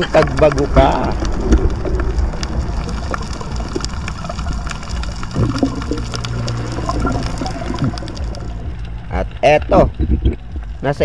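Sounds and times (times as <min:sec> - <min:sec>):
crackling clicks: 0:00.0 - 0:11.0
low rumble of moving water: 0:00.0 - 0:11.0.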